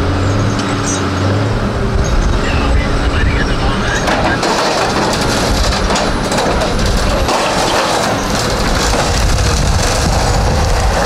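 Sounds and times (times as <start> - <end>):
diesel machines rumbling: 0.0 - 11.0.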